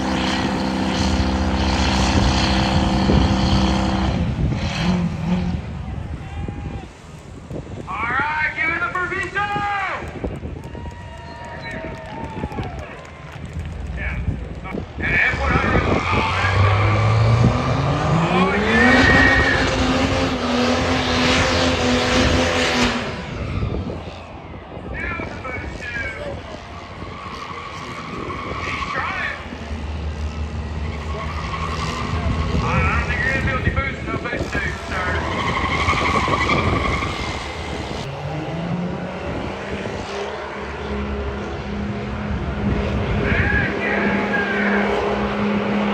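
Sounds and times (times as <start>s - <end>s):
truck engine revving: 0.0s - 9.4s, 10.0s - 45.9s.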